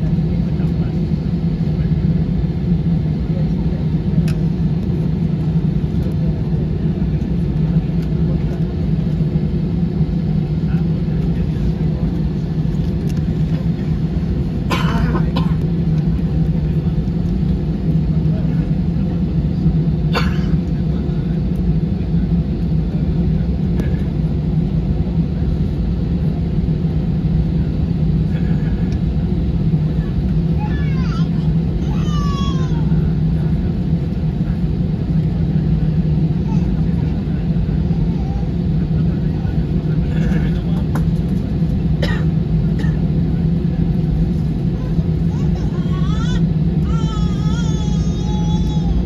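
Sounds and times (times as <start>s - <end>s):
aircraft cabin rumble: 0.0s - 49.0s.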